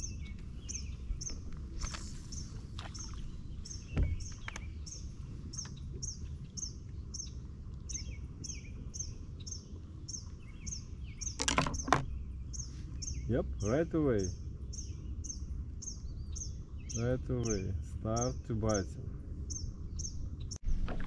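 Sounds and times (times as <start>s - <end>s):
bird chirping: 0.0s - 20.6s.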